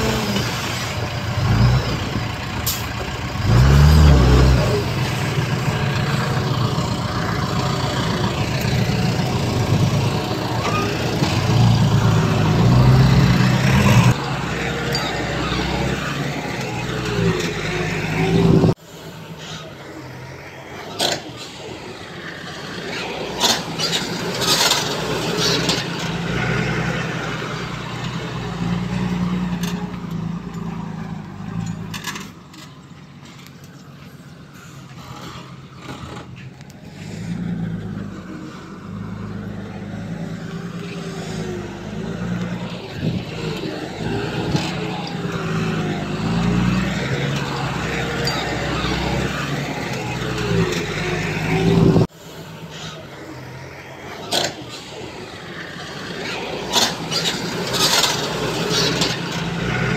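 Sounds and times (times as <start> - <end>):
heavy diesel engine working: 0.0 - 59.9.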